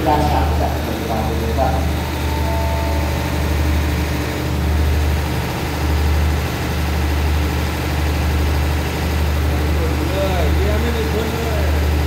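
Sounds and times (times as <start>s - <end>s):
diesel train engine idling: 0.0s - 12.0s.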